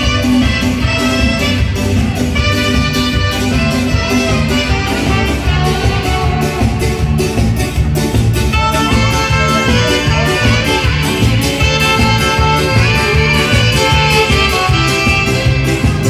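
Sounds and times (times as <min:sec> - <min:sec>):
loud dance music: 0:00.0 - 0:16.0.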